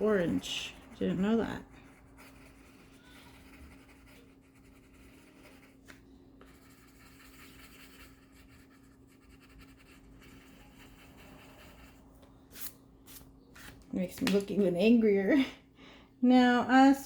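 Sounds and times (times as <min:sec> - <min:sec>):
pencil scratching on paper: 0:00.0 - 0:13.7.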